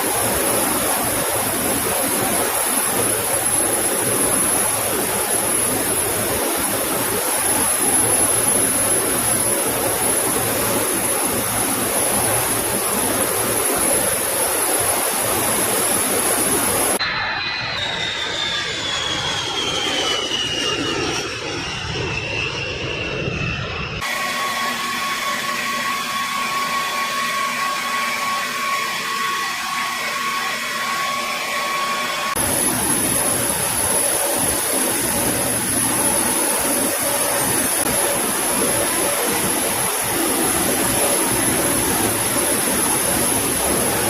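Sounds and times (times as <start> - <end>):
jet engines whining: 0.0 - 44.0.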